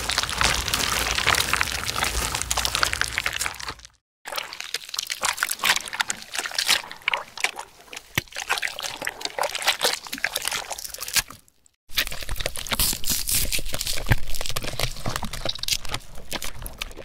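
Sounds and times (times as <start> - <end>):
wet clicks and crackles: 0.0 - 17.0.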